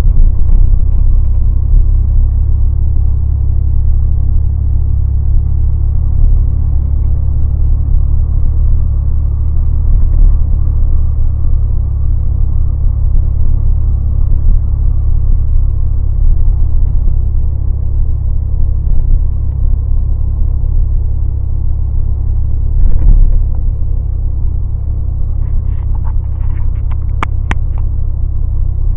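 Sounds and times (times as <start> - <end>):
truck engine and road rumble: 0.0 - 28.9.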